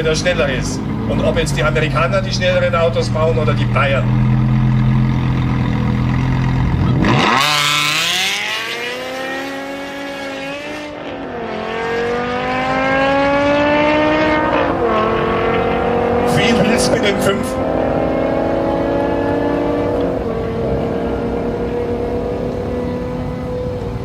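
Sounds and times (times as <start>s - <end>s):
car engines revving and accelerating: 0.0s - 24.0s.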